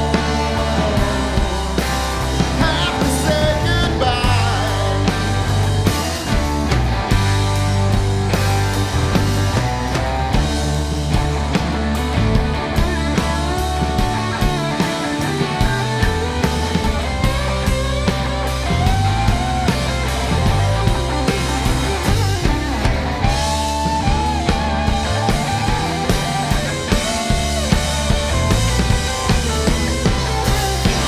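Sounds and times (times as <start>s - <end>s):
lead guitar sliding and bending: 0.0s - 31.0s
rock band playing: 0.0s - 31.0s.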